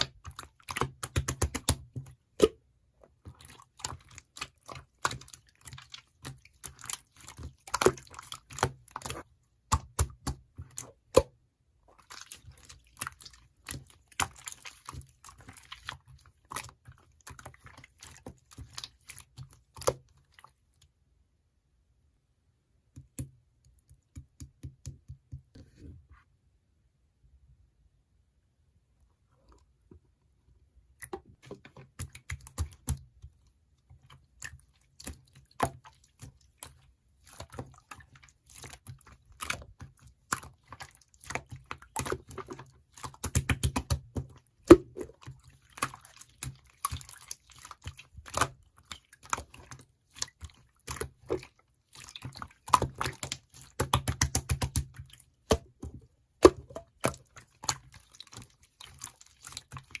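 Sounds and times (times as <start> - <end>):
rapid small clicks and wet crackles: 0.0 - 21.0, 30.9 - 60.0.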